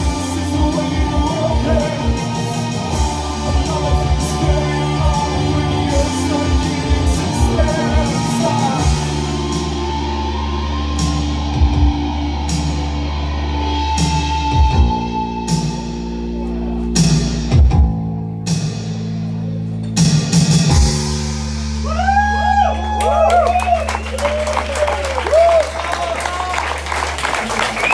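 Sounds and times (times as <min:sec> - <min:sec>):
low bass drone: 0:00.0 - 0:23.8.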